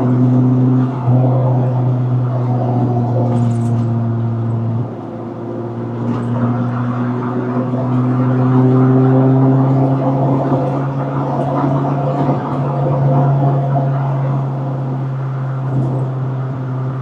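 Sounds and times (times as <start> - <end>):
car engine under load: 0.0 - 17.0.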